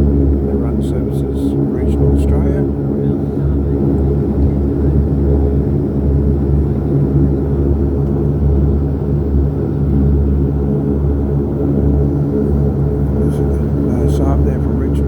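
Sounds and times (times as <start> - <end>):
turboprop cabin drone: 0.0 - 15.0.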